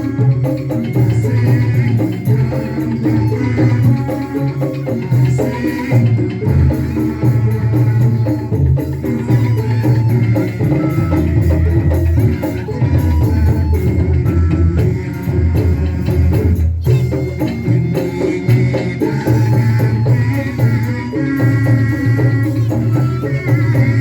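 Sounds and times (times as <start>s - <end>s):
band music: 0.0s - 24.0s
rattling shaker percussion: 0.0s - 24.0s
steady drum beat: 0.0s - 24.0s.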